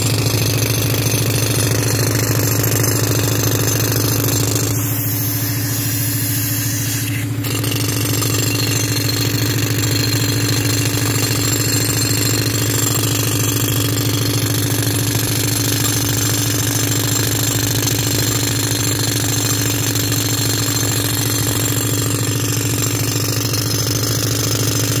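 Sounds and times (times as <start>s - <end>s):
compressor engine running: 0.0s - 25.0s
pneumatic rock drill hammering: 0.0s - 25.0s.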